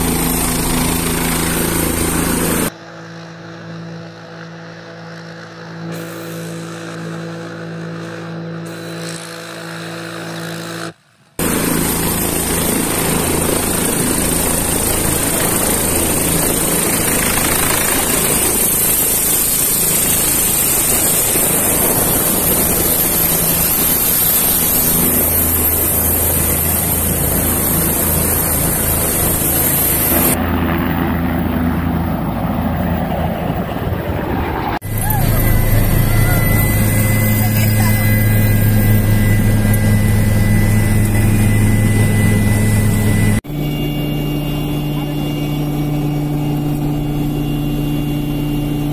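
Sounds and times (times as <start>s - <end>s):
helicopter rotor rumble: 0.0s - 48.9s
helicopter turbine whine: 0.0s - 48.9s.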